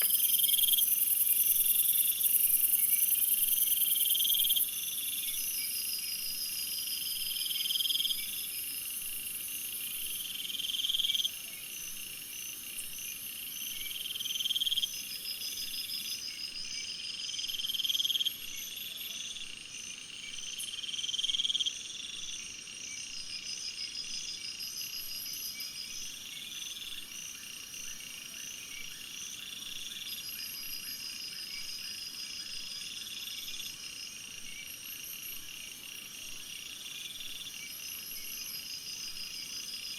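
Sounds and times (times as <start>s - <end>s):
insect buzz: 0.0s - 39.9s
insects trilling: 0.0s - 39.9s.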